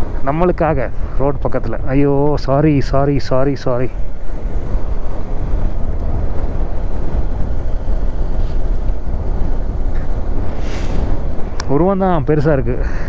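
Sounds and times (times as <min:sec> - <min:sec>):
motorcycle engine rumble: 0:00.0 - 0:13.0
wind buffeting microphone: 0:00.0 - 0:13.0.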